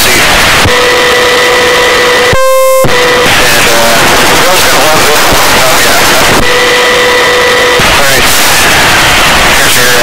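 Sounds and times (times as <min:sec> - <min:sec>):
helicopter noise hiss: 0:00.0 - 0:10.0.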